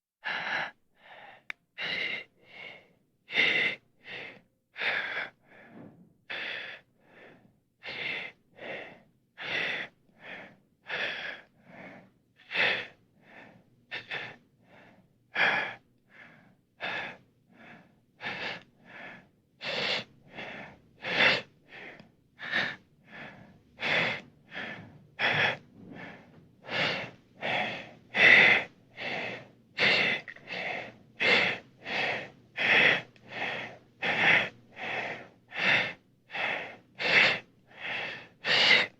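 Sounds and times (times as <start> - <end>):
person gasping rasping breaths: 0.2 - 38.9.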